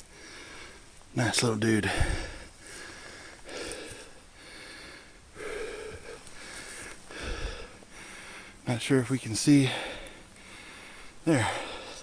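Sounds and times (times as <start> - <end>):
man breathing heavily: 0.0 - 1.0, 1.6 - 8.7, 9.5 - 12.0.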